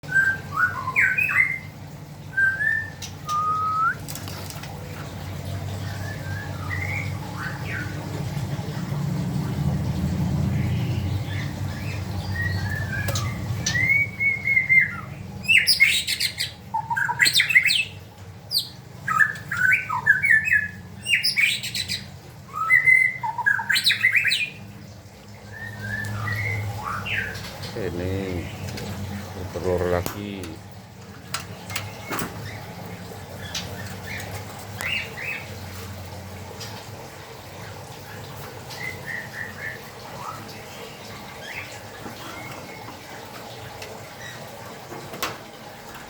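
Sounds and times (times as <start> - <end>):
birds chirping and squawking: 0.0 - 46.0.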